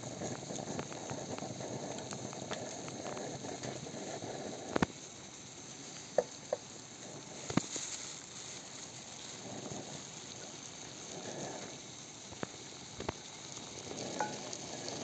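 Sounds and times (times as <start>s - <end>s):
food sizzling on hot surface: 0.0s - 15.0s.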